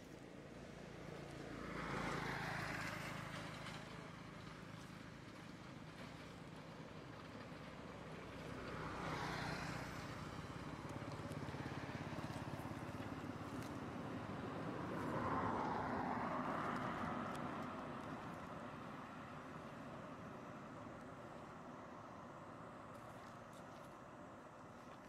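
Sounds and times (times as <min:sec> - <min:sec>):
passing traffic engine hum: 0:00.0 - 0:25.0.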